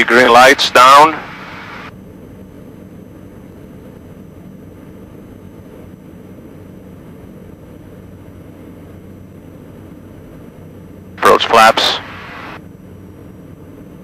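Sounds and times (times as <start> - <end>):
aircraft engines droning in cockpit: 0.0 - 14.0.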